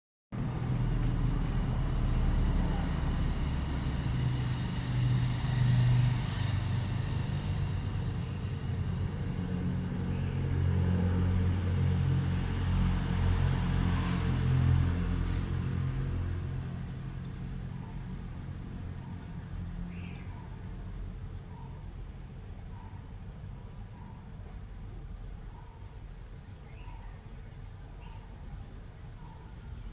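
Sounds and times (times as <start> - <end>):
low steady rumble: 0.3 - 29.9.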